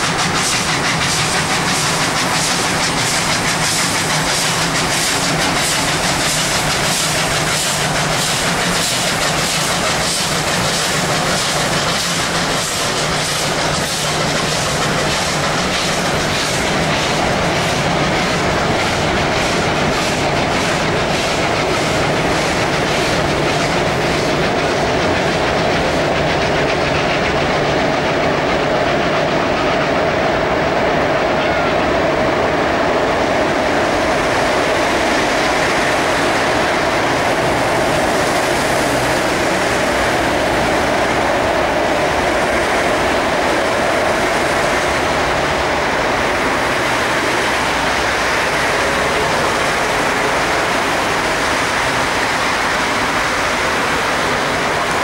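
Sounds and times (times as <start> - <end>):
steam locomotive chuffing: 0.0 - 55.0
train carriages rumbling: 0.0 - 55.0.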